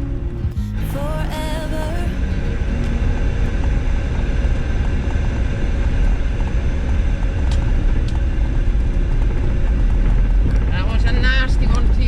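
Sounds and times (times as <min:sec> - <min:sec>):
van engine and tyres rumbling: 0:00.0 - 0:11.8.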